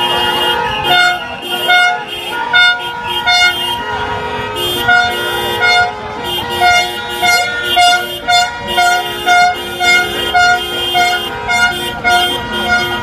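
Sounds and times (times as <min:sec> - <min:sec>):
car horns honking: 0:00.0 - 0:13.0.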